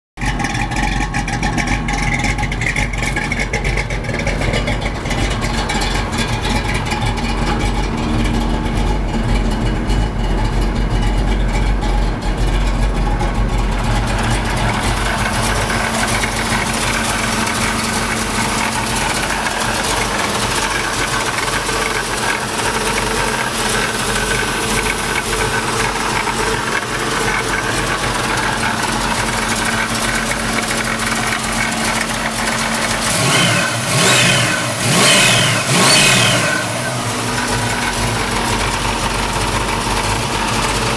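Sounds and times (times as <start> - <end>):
car engine idling: 0.2 - 40.9.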